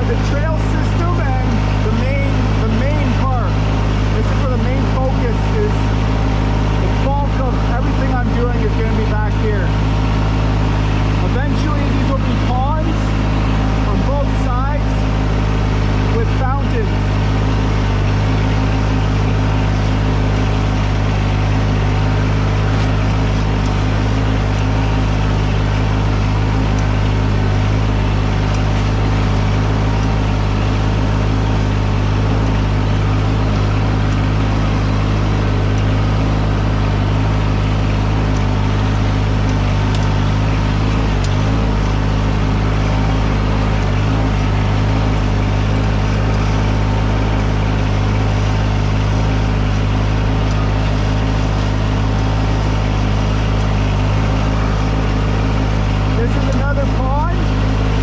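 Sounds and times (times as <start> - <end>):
engine humming steadily: 0.0 - 58.0.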